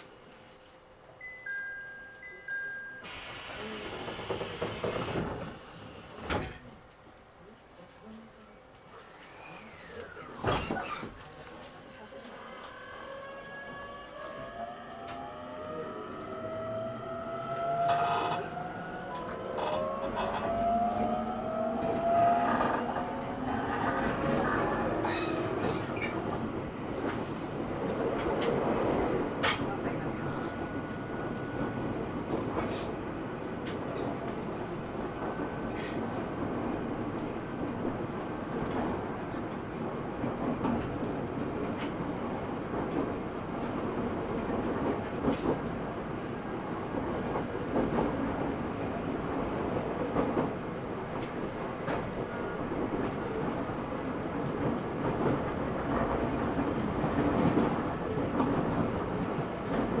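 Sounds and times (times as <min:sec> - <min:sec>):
train wheels rumbling on rail: 0:03.1 - 0:07.1, 0:09.2 - 1:00.0.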